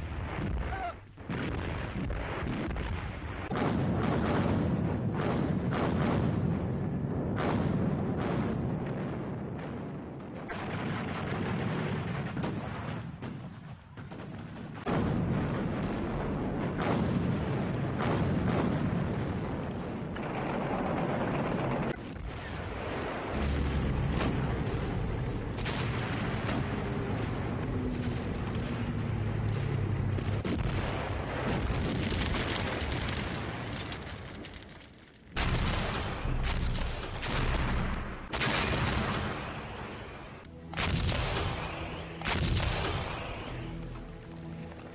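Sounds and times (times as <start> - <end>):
artillery booms: 0.0 - 43.8
rifle and machine-gun shots: 1.3 - 9.8, 10.4 - 34.7, 35.4 - 43.8.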